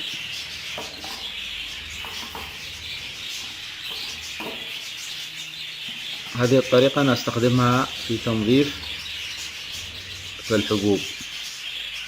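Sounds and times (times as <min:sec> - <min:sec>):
small fan hissing: 0:00.0 - 0:06.2, 0:07.6 - 0:11.4
budgerigars chattering and chirping: 0:00.0 - 0:12.0.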